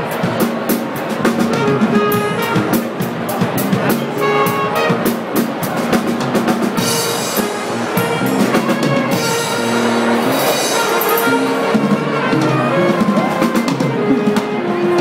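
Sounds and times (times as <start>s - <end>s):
drum kit with cymbal wash: 0.0s - 15.0s
trumpet and saxophone: 1.2s - 15.0s.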